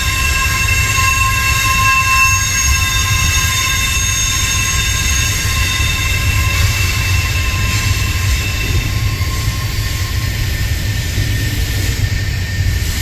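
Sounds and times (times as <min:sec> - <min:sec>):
freight train rumbling on rails: 0:00.0 - 0:13.0
high-pitched wheel squeal: 0:00.0 - 0:13.0.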